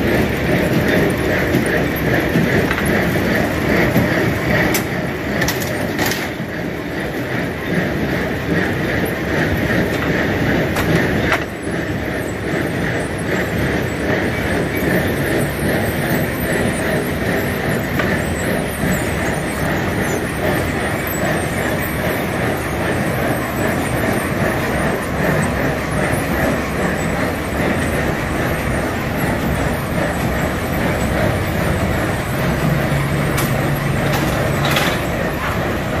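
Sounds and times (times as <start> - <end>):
engine-driven machinery running: 0.0 - 36.0.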